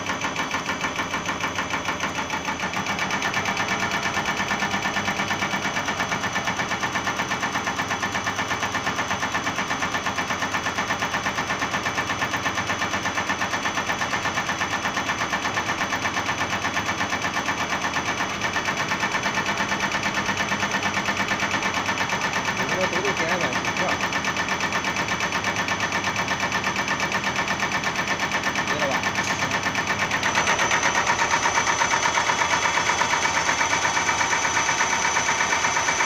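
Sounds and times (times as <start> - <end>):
test bench mechanical clatter: 0.0 - 36.0.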